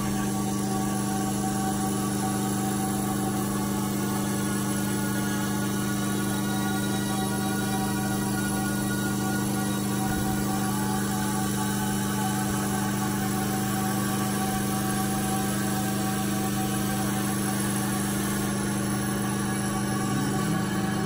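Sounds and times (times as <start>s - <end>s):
gantry motor whine: 0.0s - 21.0s
laser cutter machine hum: 0.0s - 21.0s.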